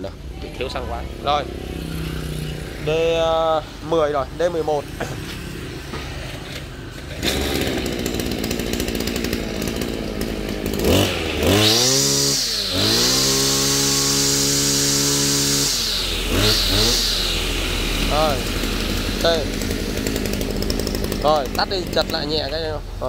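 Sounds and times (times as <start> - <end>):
brush cutter engine revving: 0.6 - 23.0.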